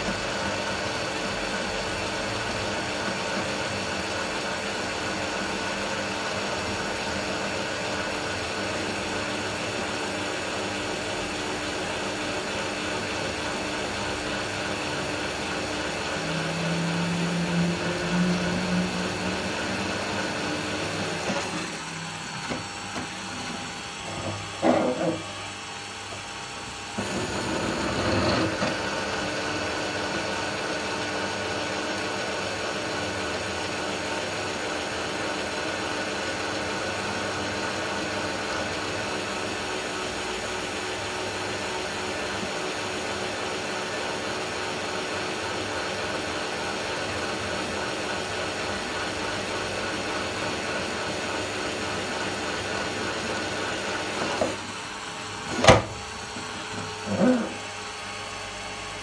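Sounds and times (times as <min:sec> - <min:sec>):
drill press drilling metal: 0:02.0 - 0:36.8, 0:37.4 - 0:57.7.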